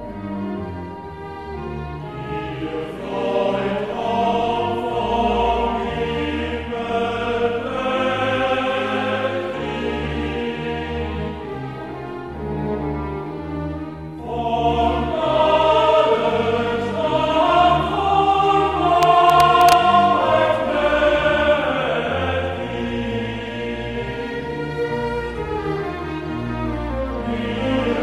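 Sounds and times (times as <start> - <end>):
choir singing over orchestra: 1.5 - 13.3, 14.1 - 28.0.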